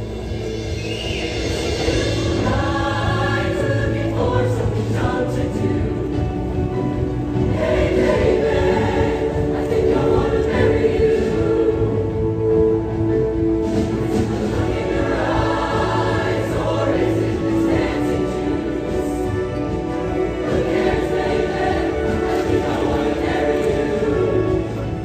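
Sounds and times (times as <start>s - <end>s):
choir singing held chords: 0.0s - 25.0s
instrumental accompaniment: 0.0s - 25.0s.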